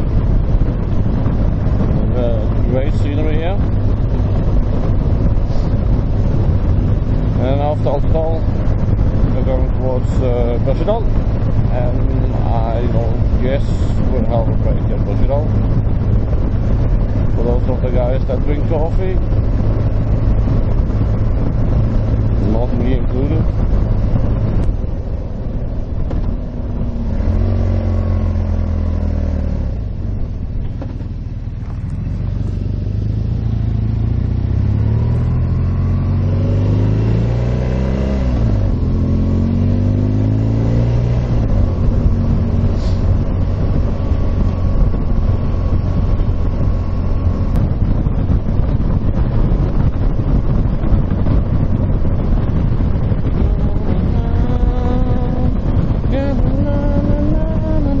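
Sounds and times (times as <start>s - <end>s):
motorcycle engine: 0.0s - 58.0s
wind rushing over microphone: 0.0s - 58.0s.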